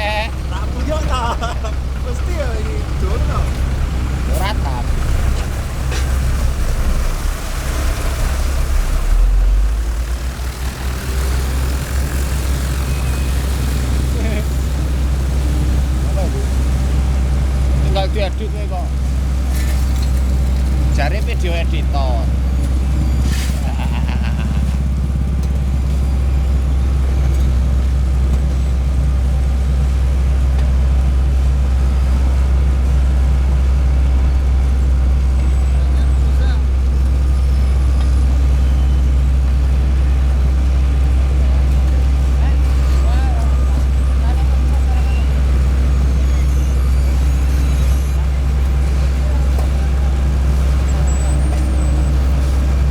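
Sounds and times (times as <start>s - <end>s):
paving machinery engine drone: 0.0s - 52.9s.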